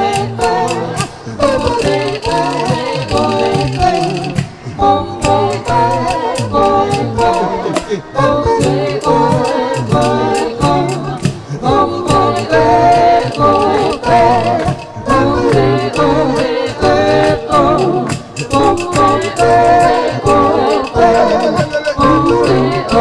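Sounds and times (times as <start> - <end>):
percussive beat: 0.0 - 23.0
vocal group singing in harmony: 0.0 - 23.0.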